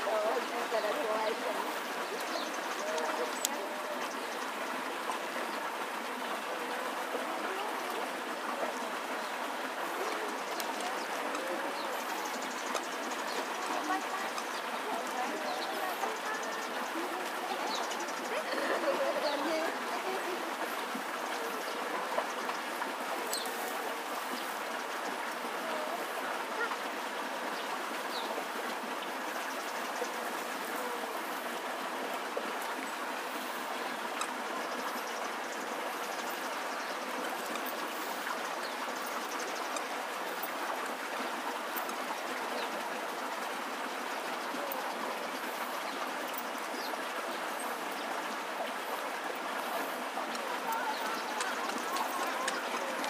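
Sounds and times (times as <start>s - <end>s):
rushing outdoor noise: 0.0s - 53.0s.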